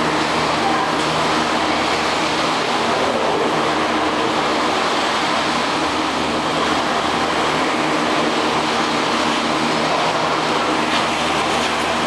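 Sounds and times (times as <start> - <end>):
gondola machinery rumble and hum: 0.0 - 12.0.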